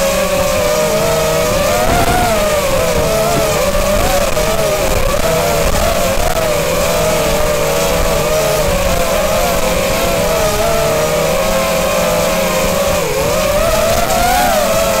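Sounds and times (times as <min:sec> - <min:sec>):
quadcopter motors whining: 0:00.0 - 0:15.0
steady rushing noise: 0:00.4 - 0:13.8.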